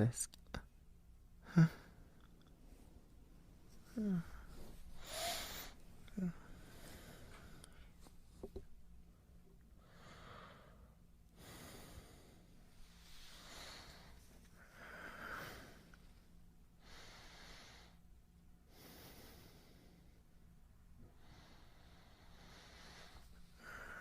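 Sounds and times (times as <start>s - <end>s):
man breathing softly: 1.4s - 8.6s, 9.8s - 24.0s.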